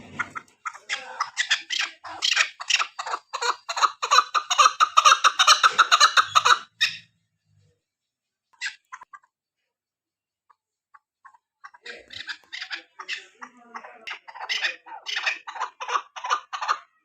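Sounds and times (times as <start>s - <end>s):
partridge clucking calls: 0.0s - 7.1s, 8.5s - 9.3s, 10.5s - 17.0s.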